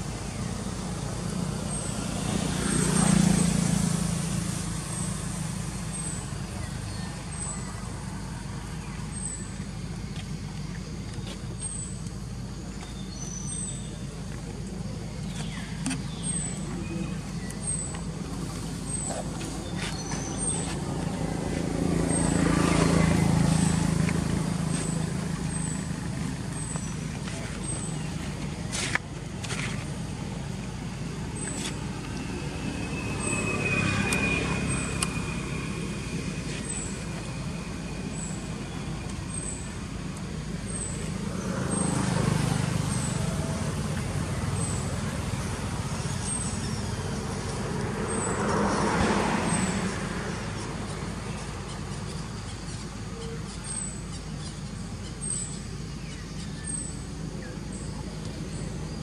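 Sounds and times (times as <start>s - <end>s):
low traffic rumble: 0.0s - 59.0s
vehicles passing: 0.0s - 59.0s.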